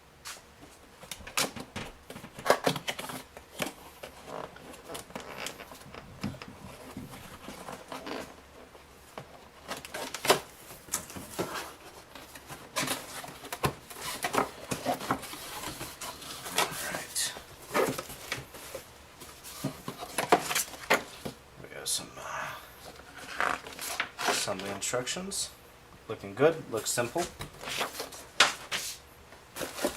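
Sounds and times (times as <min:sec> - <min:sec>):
box packing scraping and rustling: 0:01.5 - 0:21.4, 0:22.9 - 0:24.8, 0:27.0 - 0:29.9.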